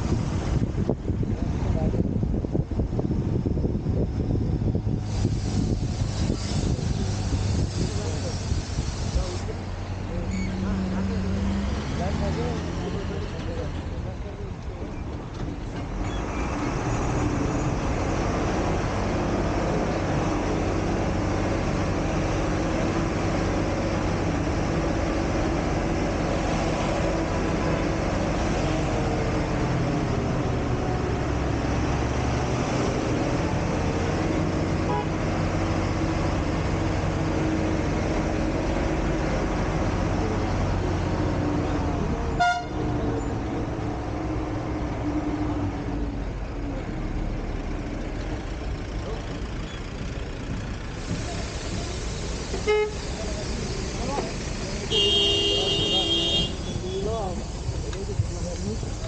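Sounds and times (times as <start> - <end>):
bus engine running: 0.0 - 59.0
road and traffic noise: 0.0 - 59.0.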